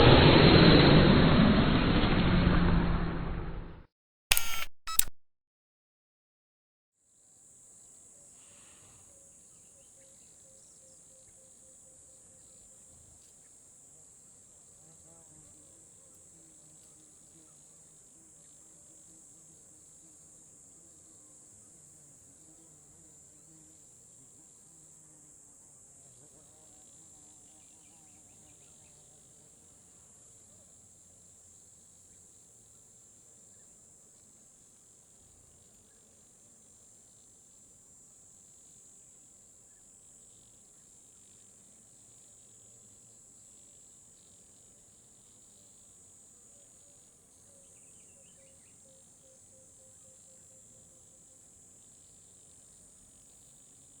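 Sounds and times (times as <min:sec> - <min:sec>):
faint crickets trilling: 0:07.0 - 0:54.0.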